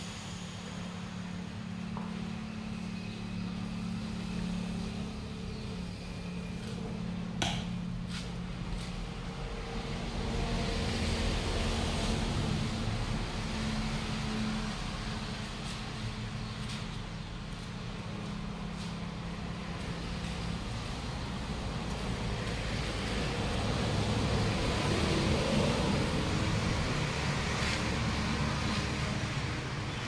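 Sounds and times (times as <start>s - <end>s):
low machinery hum: 0.0s - 30.0s.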